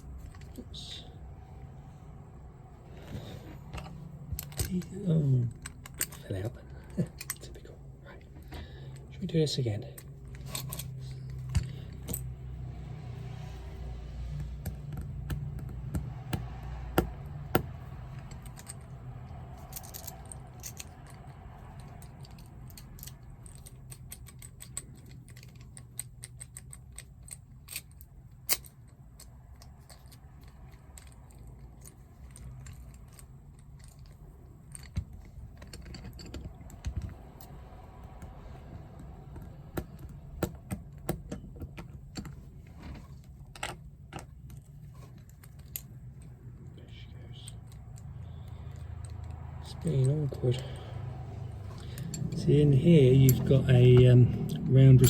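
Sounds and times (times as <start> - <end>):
low steady hum: 0.0 - 55.0
small metal parts clicking: 3.0 - 7.8, 9.8 - 12.8, 14.2 - 55.0.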